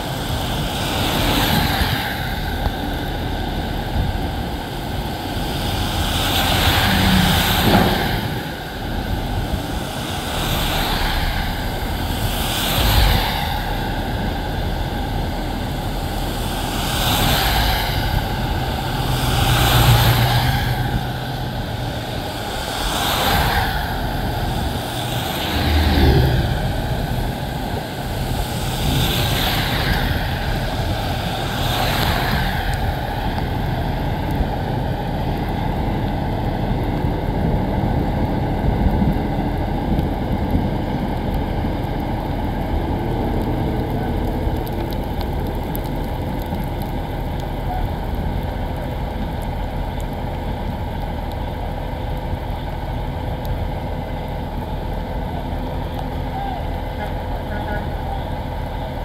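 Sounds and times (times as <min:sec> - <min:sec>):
vehicles passing on wet road: 0:00.0 - 0:59.0.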